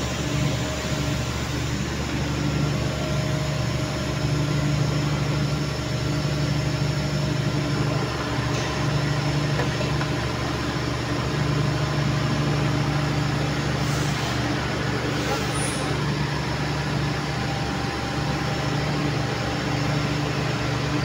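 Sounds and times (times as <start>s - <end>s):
factory machine tools humming: 0.0s - 21.0s.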